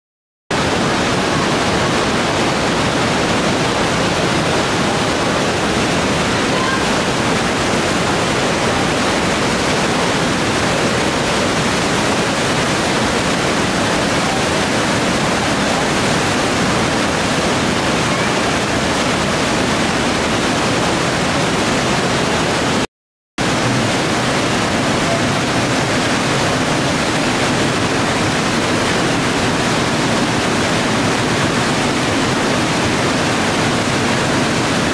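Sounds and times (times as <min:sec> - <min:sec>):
waterfall rushing: 0:00.5 - 0:34.9.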